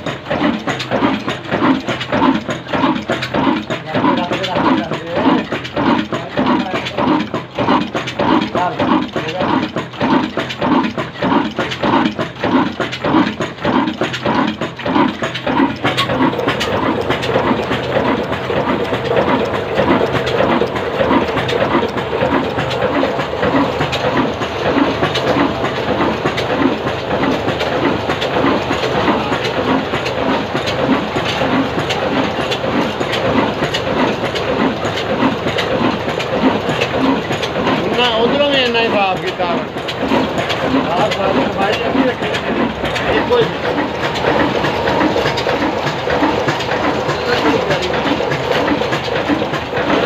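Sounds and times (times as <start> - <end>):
diesel engine running: 0.0 - 50.0
engine parts clattering: 0.0 - 50.0.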